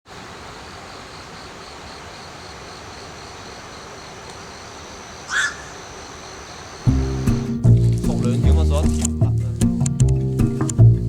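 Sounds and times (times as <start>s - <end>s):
constant hiss: 0.1s - 11.0s
insects chirring: 0.1s - 11.0s.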